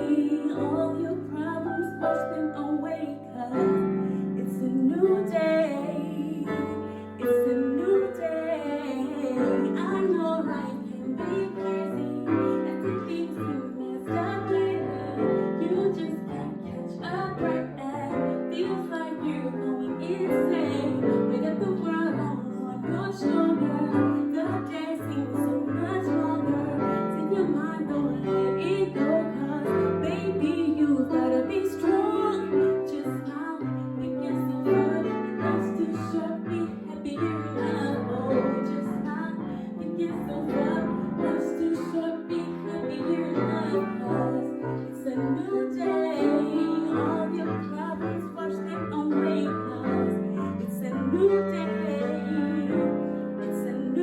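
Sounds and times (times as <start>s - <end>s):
piano accompaniment: 0.0s - 54.0s
woman singing: 0.0s - 54.0s.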